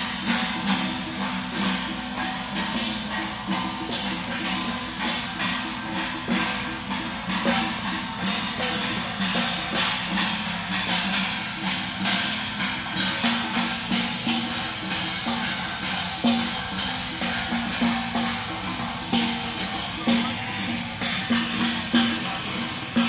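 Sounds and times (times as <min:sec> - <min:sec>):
cymbals crashing: 0:00.0 - 0:23.0
drums beating: 0:00.0 - 0:23.0
gongs: 0:00.0 - 0:23.0.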